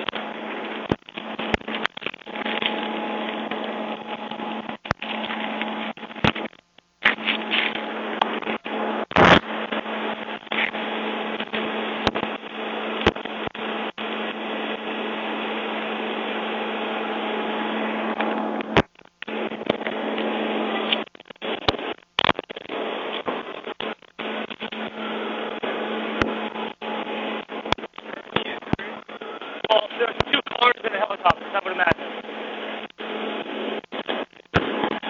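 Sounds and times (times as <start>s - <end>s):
machine drone with low hum: 0.0s - 35.0s.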